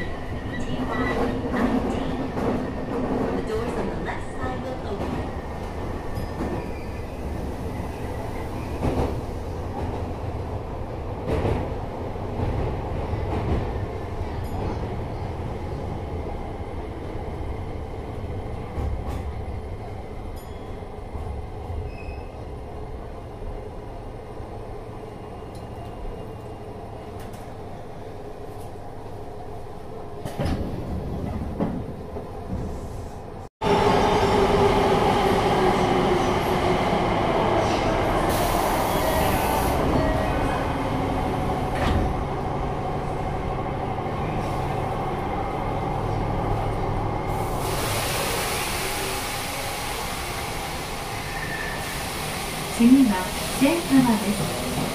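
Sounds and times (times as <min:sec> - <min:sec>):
subway wheels rumbling on rail: 0:00.0 - 0:54.9.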